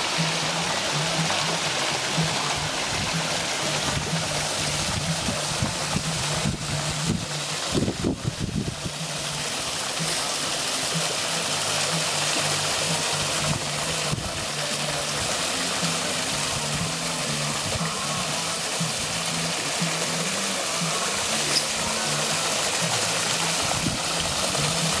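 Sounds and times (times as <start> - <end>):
water splashing down stone waterfall: 0.0 - 25.0.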